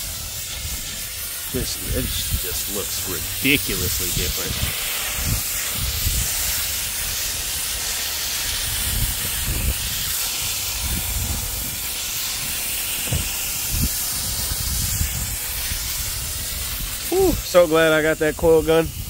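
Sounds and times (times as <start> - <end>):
hose spray jet hissing: 0.0 - 19.0.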